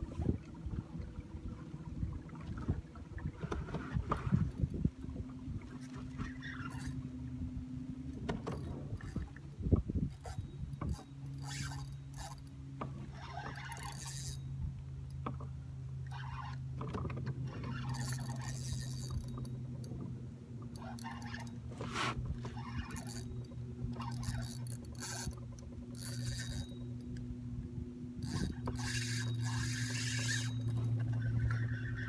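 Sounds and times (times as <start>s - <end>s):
boat motor running: 0.0s - 32.0s.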